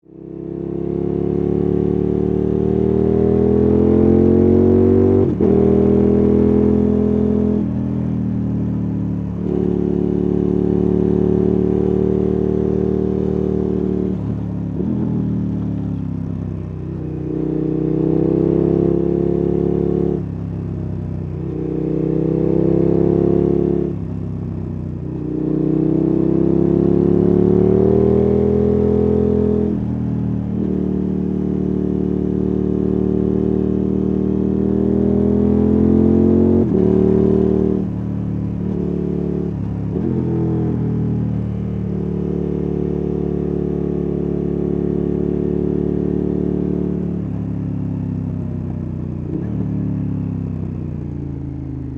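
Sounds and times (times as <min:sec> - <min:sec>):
motorcycle engine revving: 0:00.1 - 0:51.9.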